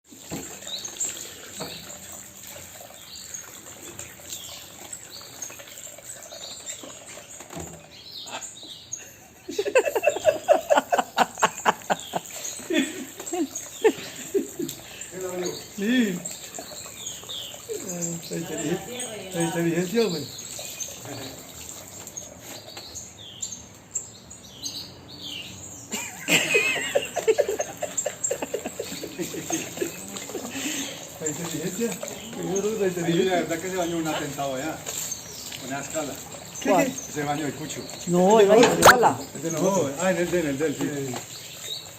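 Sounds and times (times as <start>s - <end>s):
small birds chirping: 0.2s - 41.9s.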